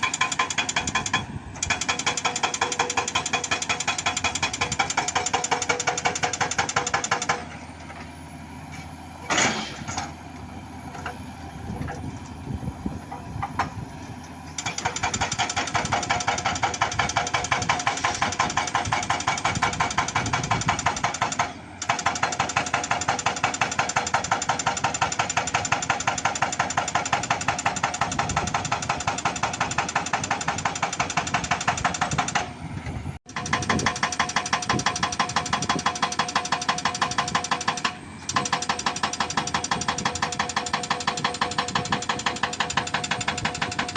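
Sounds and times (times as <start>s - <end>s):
hydraulic breaker hammering rock: 0.0s - 7.6s, 14.6s - 32.6s, 33.3s - 43.9s
excavator engine: 0.0s - 43.9s.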